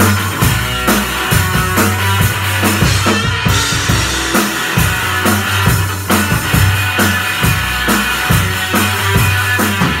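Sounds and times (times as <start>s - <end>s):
bass guitar notes: 0.0s - 10.0s
drum kit beat: 0.0s - 10.0s
electric guitar: 0.0s - 10.0s
rock band playing live: 0.0s - 10.0s.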